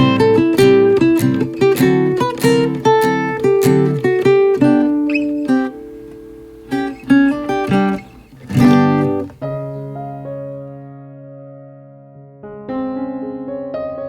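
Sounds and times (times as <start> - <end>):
acoustic guitar music: 0.0 - 12.4.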